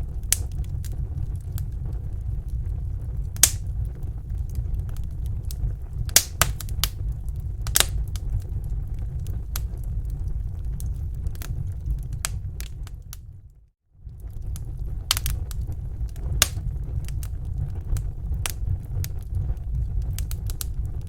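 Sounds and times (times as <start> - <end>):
campfire crackling and popping: 0.0 - 21.0
low steady rumble: 0.0 - 21.0.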